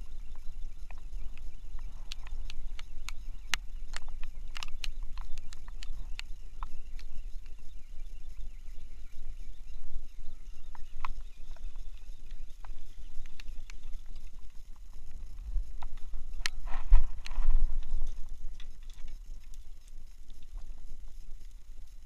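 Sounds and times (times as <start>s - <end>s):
rod and reel clicks: 0.0s - 22.0s
wind on microphone: 0.0s - 22.0s.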